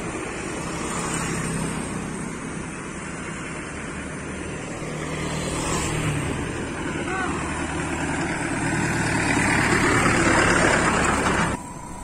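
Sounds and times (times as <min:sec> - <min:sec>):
low engine hum: 0:00.0 - 0:12.0
wind and road noise: 0:00.0 - 0:12.0.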